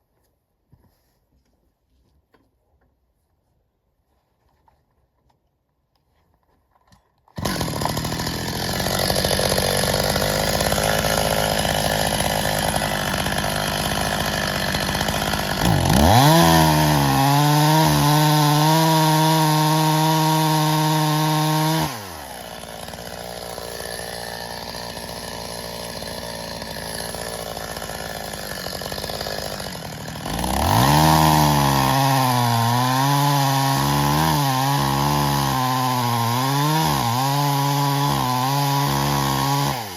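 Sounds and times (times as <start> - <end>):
chainsaw revving: 7.4 - 39.9.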